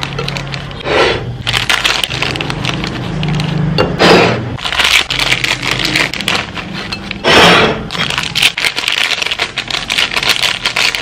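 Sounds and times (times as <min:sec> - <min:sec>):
snack packets rustling and crackling: 0:00.0 - 0:00.8, 0:01.4 - 0:03.7, 0:04.6 - 0:07.2, 0:07.9 - 0:11.0.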